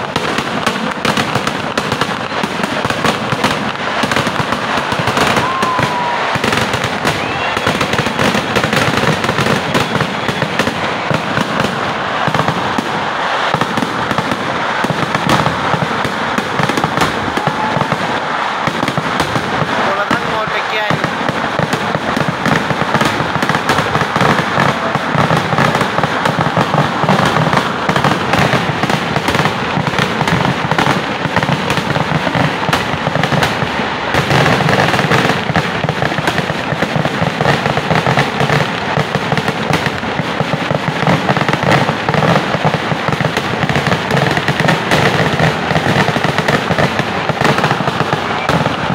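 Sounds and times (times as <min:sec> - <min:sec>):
fireworks crackling barrage: 0:00.0 - 0:48.9.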